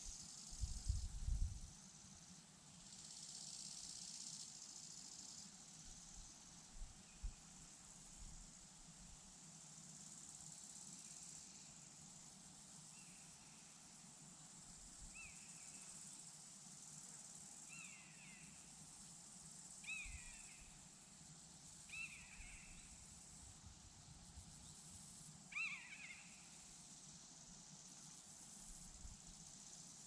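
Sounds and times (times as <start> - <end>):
crickets chirring: 0.0 - 8.6, 9.6 - 30.0.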